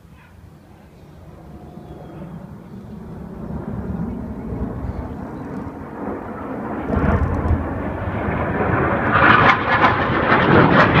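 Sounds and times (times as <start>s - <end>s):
jet passing overhead: 0.0s - 11.0s.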